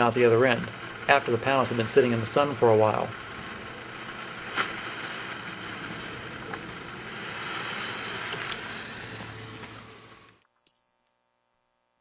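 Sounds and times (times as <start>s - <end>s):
steam hissing: 0.0s - 10.4s.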